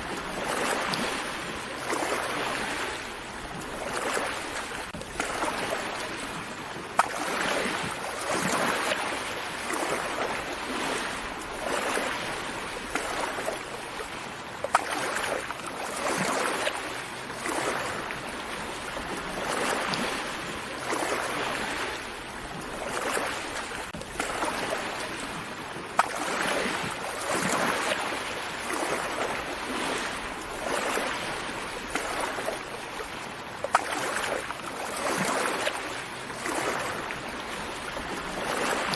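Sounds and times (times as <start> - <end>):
sea waves breaking on beach: 0.0 - 38.9.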